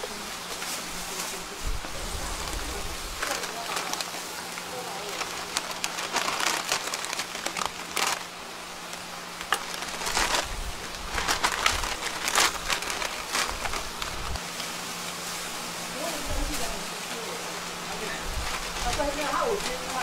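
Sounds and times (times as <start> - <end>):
foil bag crinkling: 0.0 - 17.3, 17.9 - 20.0
steady low hum: 0.0 - 20.0.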